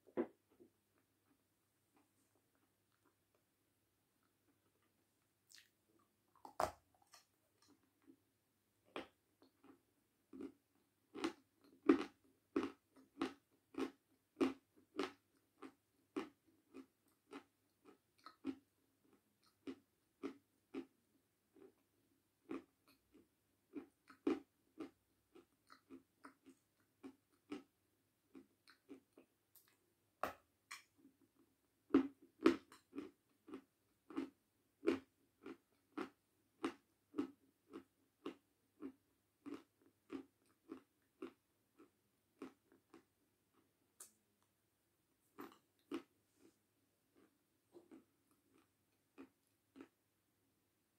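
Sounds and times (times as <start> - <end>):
person chewing with crunches: 5.5 - 8.2, 8.9 - 31.3, 31.9 - 44.2, 45.3 - 50.0.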